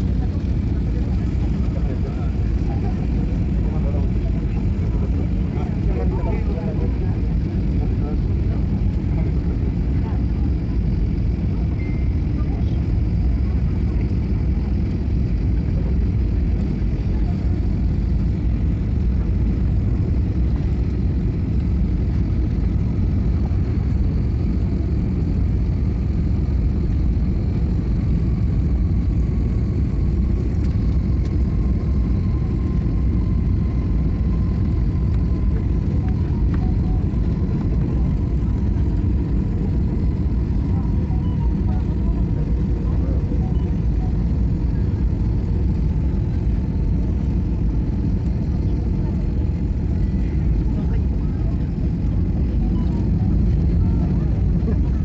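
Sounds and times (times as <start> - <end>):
jet cabin engine rumble: 0.0 - 55.0.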